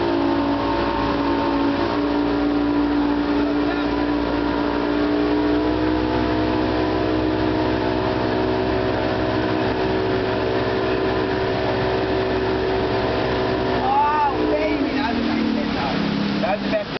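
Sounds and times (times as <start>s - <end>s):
outboard motor running: 0.0s - 16.9s
water rushing from wake: 0.0s - 16.9s.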